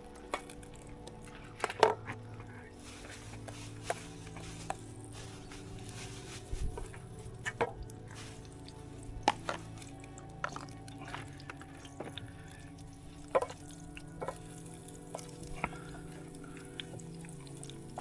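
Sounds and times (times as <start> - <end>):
rain drips tapping: 0.0 - 18.0.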